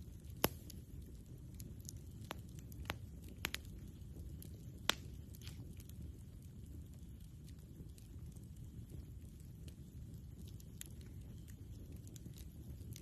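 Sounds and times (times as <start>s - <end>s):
campfire rumble: 0.0s - 13.0s
wood popping in fire: 0.0s - 13.0s.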